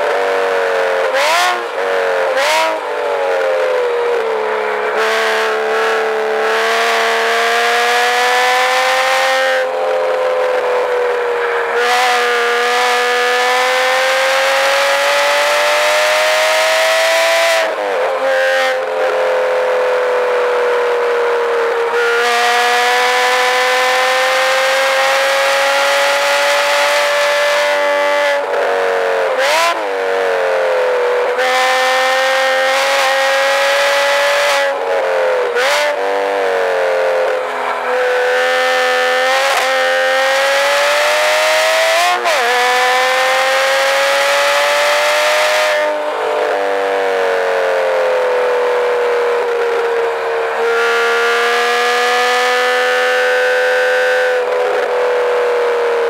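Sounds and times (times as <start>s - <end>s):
car engine revving: 0.0s - 56.0s
wind and road noise: 0.0s - 56.0s.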